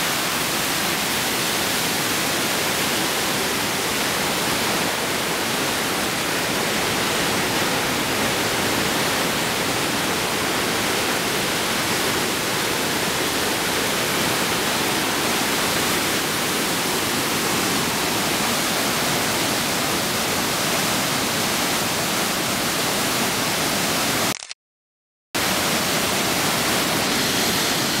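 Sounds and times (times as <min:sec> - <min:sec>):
whitewater rushing: 0:00.0 - 0:24.3, 0:25.4 - 0:28.0.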